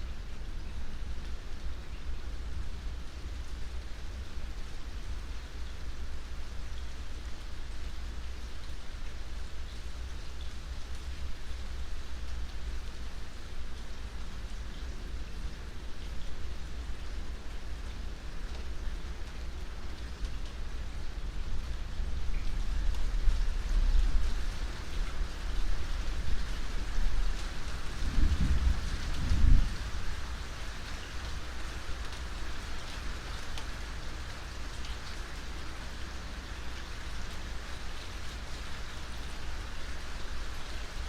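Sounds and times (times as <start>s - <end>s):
steady rain falling: 0.0s - 41.0s
rain drop ticks: 6.6s - 41.0s.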